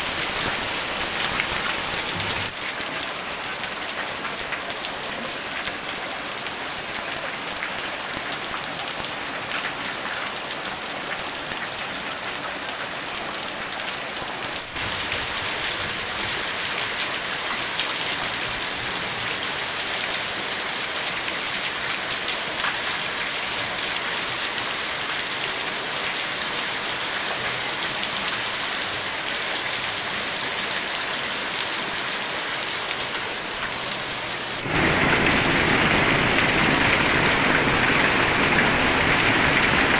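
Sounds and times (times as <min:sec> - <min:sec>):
very heavy rain pouring: 0:00.0 - 0:39.9.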